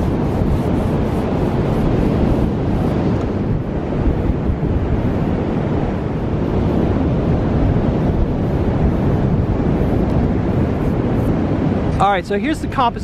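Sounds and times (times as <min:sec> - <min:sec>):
ocean surf breaking: 0:00.0 - 0:13.0
strong wind buffeting microphone: 0:00.0 - 0:13.0.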